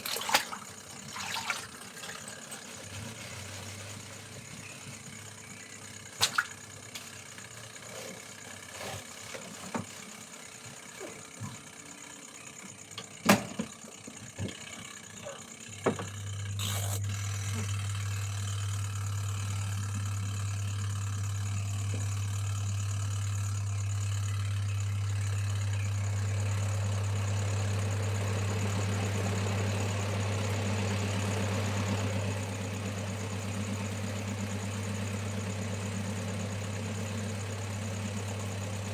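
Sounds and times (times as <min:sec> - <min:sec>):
washing machine churning: 0:00.0 - 0:38.9
washing machine motor hum: 0:00.0 - 0:38.9.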